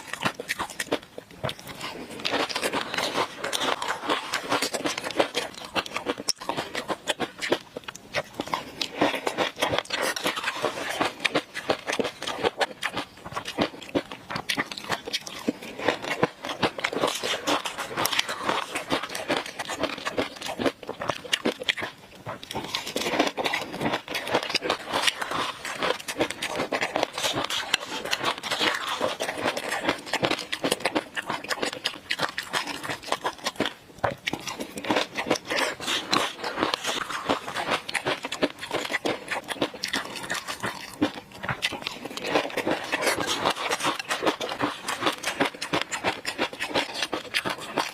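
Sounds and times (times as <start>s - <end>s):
wet crackling chewing: 0.0s - 47.9s.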